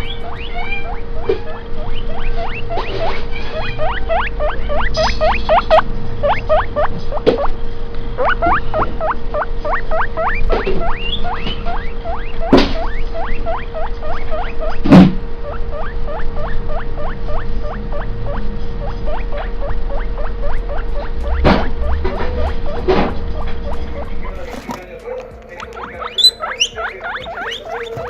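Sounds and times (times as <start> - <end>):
guinea pig wheeking: 0.0 - 7.6, 8.2 - 28.0
steady hum: 0.0 - 28.0.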